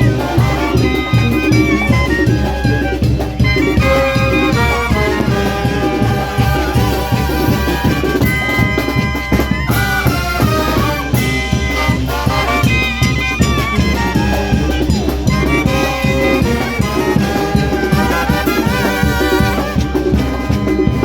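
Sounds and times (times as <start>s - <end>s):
brass band playing dance music: 0.0s - 21.0s.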